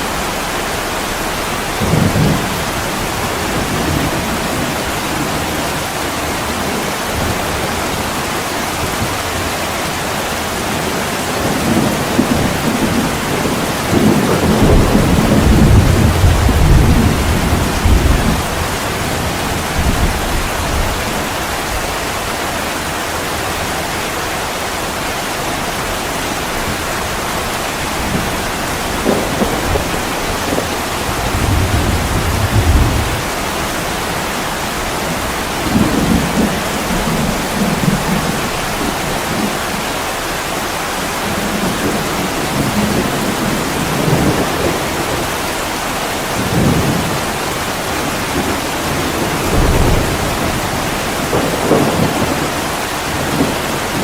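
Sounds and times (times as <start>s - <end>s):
heavy rain on a window: 0.0s - 54.0s.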